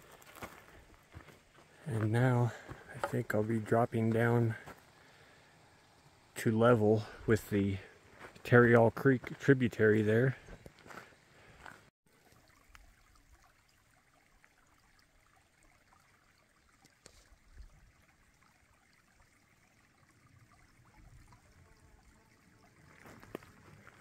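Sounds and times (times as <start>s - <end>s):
creek trickling: 0.0s - 24.0s.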